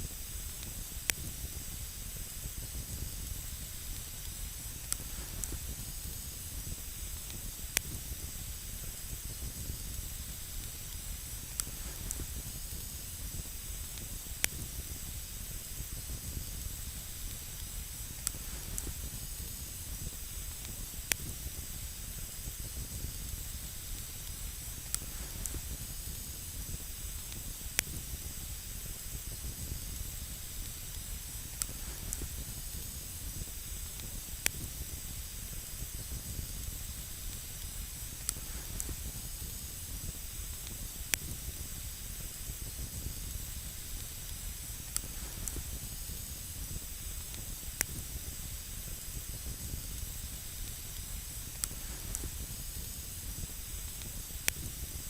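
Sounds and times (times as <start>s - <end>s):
campfire flames hissing: 0.0s - 55.0s
fire crackling and popping: 0.0s - 55.0s.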